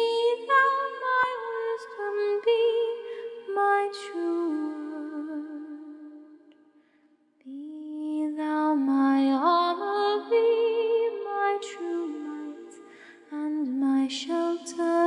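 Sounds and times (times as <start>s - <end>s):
a cappella vocal harmony: 0.0s - 6.8s, 7.4s - 15.0s.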